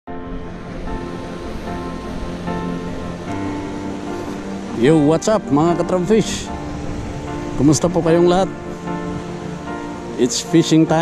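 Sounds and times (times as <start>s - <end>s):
background music of held notes: 0.1s - 11.0s
small waves breaking on shore: 0.4s - 11.0s.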